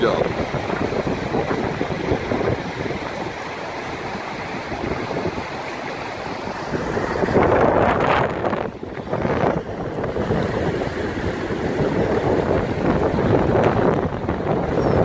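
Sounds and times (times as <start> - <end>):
water rushing out of culvert: 0.0 - 15.0
wind on microphone: 0.0 - 15.0.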